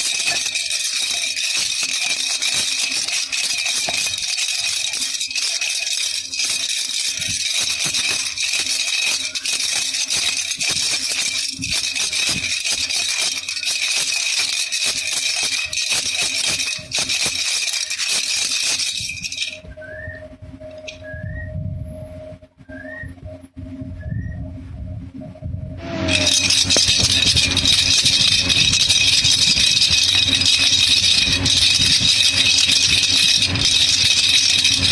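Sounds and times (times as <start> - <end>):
baby rattle shaken: 0.0 - 19.7, 25.9 - 34.9.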